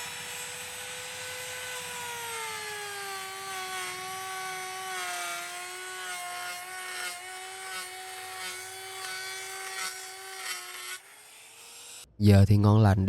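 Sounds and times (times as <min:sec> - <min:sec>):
router bit rasping in wood: 0:00.0 - 0:12.1
wood router whining: 0:00.0 - 0:12.1.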